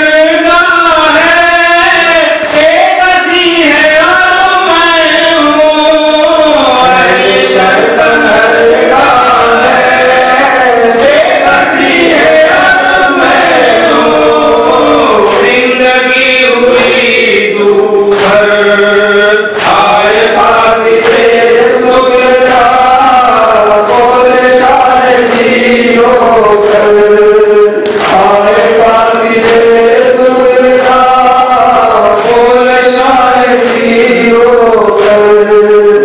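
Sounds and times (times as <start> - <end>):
men chanting a lament: 0.0 - 36.0.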